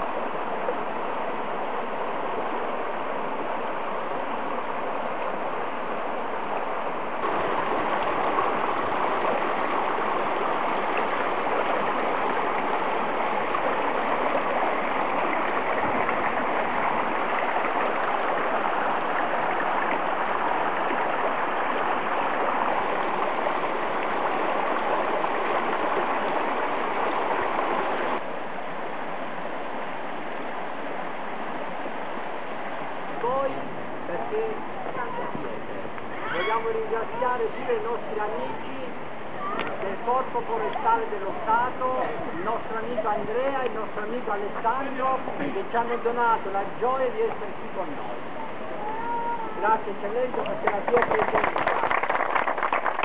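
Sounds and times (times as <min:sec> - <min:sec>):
stream running over rocks: 0:00.0 - 0:53.0.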